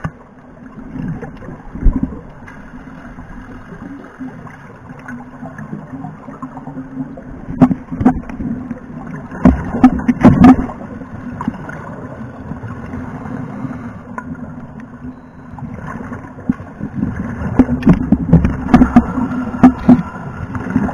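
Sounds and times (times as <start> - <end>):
bubbling and crackle: 0.0 - 20.9
underwater low hum: 0.0 - 20.9.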